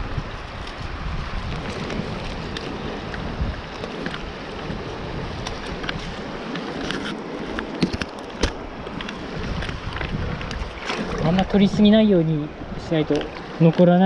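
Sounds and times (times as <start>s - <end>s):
mountain stream rushing: 0.0s - 14.0s
wind on microphone: 0.0s - 14.0s.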